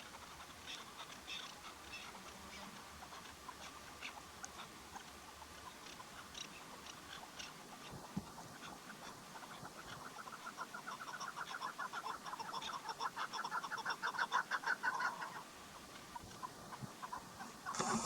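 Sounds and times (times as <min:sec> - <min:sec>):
partridge clucking calls: 0:00.0 - 0:18.0.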